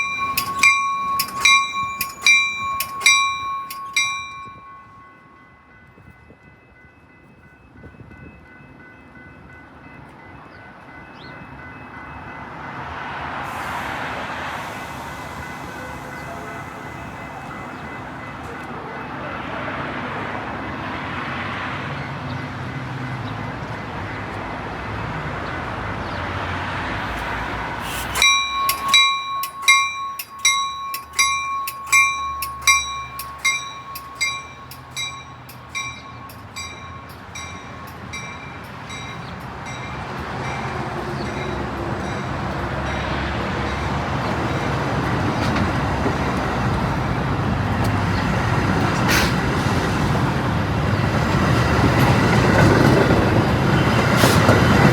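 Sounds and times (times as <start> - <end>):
railroad crossing warning bell: 0.0 - 54.9
train rumble: 0.0 - 54.9.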